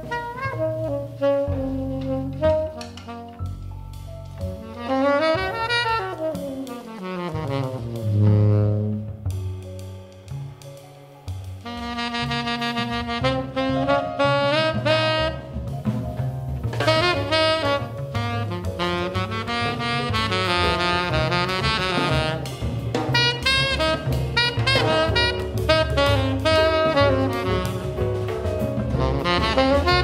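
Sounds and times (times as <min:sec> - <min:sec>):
tenor saxophone jazz solo: 0:00.0 - 0:09.8, 0:11.6 - 0:30.0
double bass: 0:00.0 - 0:30.0
drums: 0:00.0 - 0:30.0.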